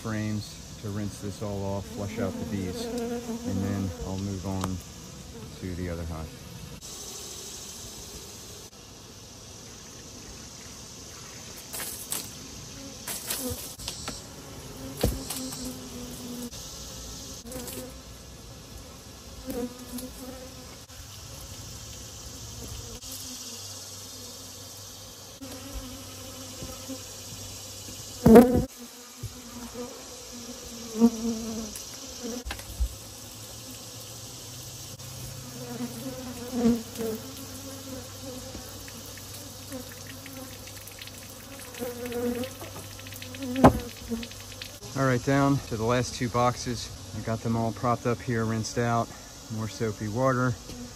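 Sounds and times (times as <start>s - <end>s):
bees buzzing: 0.1s - 50.9s.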